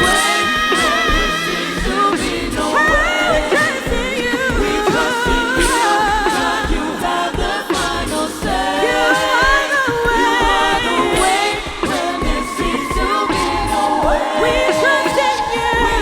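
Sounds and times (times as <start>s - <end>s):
vocal ensemble singing a cappella: 0.0s - 16.0s.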